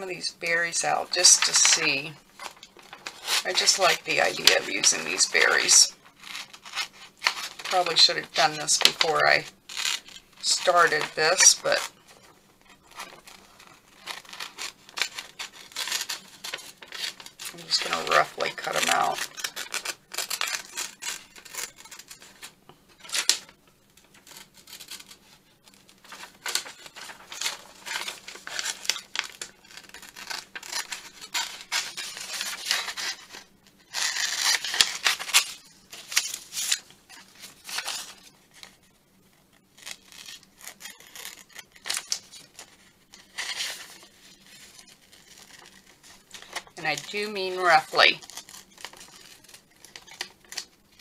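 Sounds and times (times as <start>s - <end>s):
paper crackling: 0.0s - 51.0s
scissors snipping magazine page: 1.2s - 12.3s, 12.9s - 38.8s, 39.8s - 51.0s.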